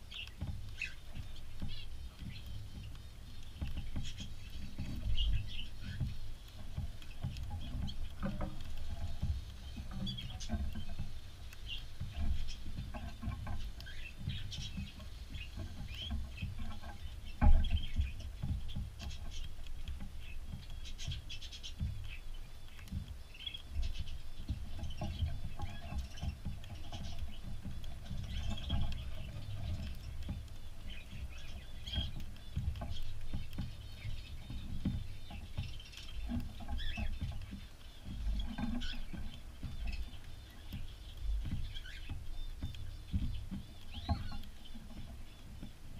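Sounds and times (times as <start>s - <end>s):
bird chirps and calls: 0.0s - 45.9s
birds pecking at seed dish: 0.0s - 45.9s.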